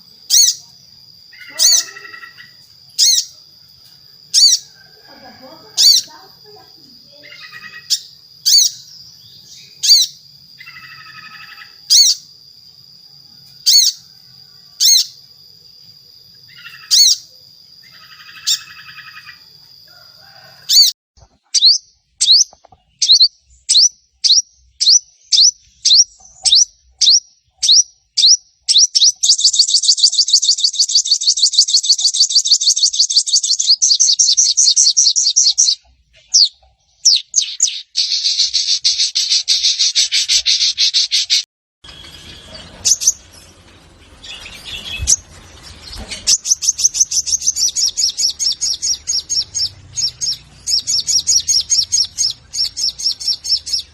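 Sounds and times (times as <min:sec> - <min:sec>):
sunbird calling: 0:00.0 - 0:53.9.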